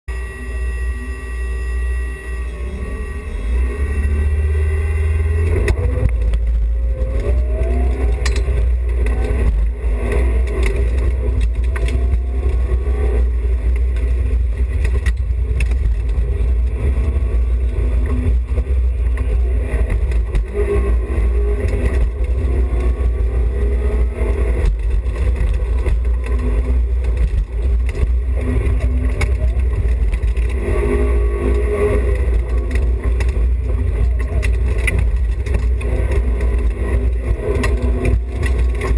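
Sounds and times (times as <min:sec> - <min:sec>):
low rumble of road and wind: 0:00.1 - 0:38.9
rally car engine revving: 0:01.9 - 0:38.9.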